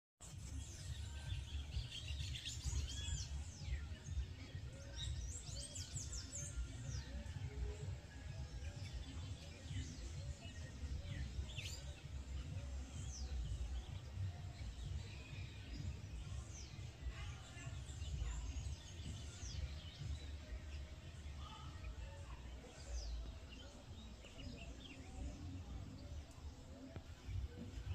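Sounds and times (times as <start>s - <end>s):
wild birds chirping: 0.3s - 27.9s.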